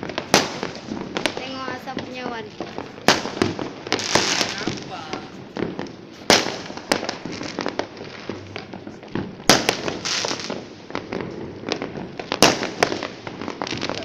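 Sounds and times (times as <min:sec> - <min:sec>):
fireworks crackling and popping: 0:00.0 - 0:14.0
loud firework bangs: 0:00.0 - 0:14.0.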